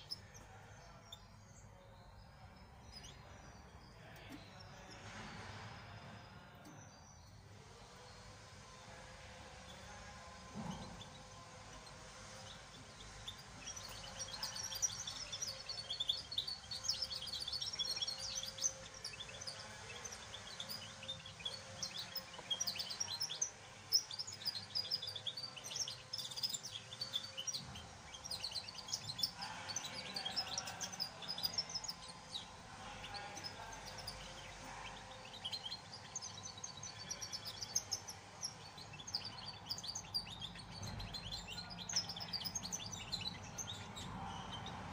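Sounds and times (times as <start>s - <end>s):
songbird twittering song: 0.0s - 44.9s.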